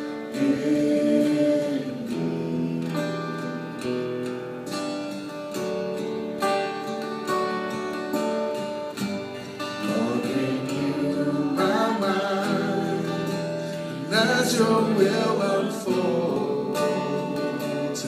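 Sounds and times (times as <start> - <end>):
acoustic guitar strummed: 0.0 - 18.0.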